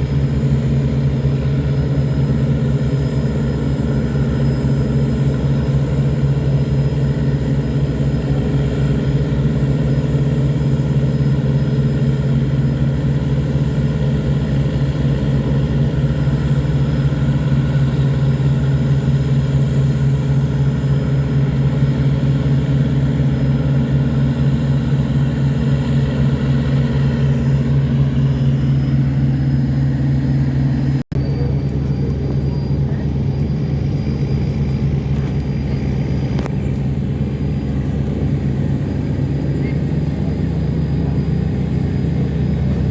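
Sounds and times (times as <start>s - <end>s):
boat diesel engine droning: 0.0s - 42.9s.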